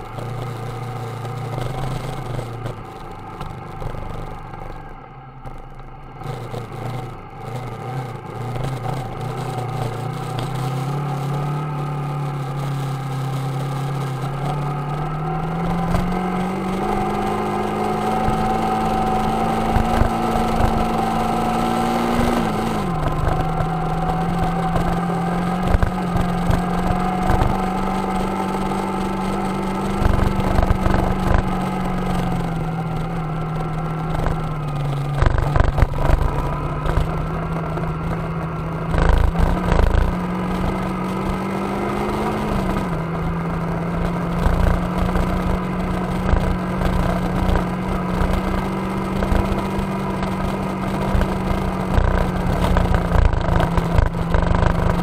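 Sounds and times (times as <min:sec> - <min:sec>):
bike rattling on gravel road: 0:00.0 - 0:55.0
motorcycle engine cruising: 0:00.0 - 0:55.0.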